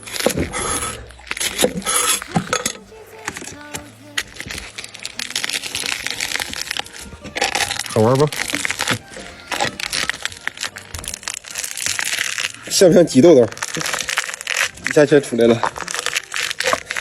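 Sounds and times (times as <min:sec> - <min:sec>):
seed pods cracking and crunching: 0:00.0 - 0:17.0.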